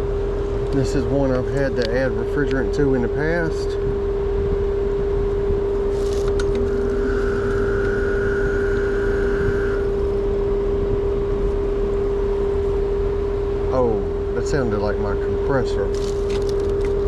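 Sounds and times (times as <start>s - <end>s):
air conditioner humming: 0.0s - 17.0s
faint high whine: 0.0s - 17.0s.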